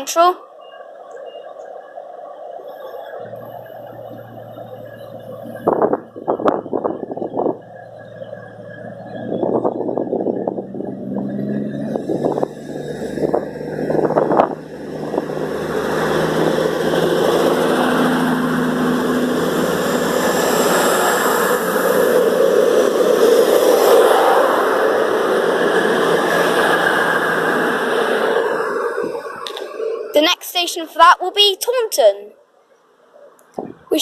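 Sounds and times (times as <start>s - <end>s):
diesel train engines under power: 0.0s - 32.2s.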